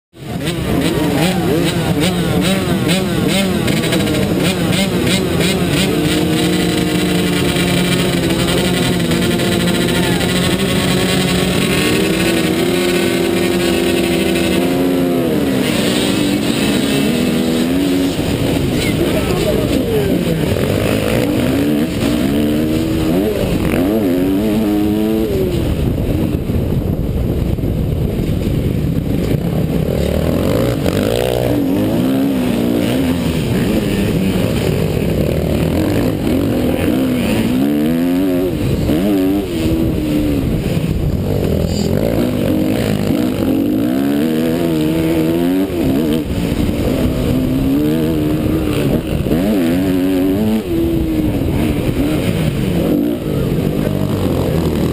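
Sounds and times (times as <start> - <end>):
motorcycle engine revving: 0.1 - 54.9.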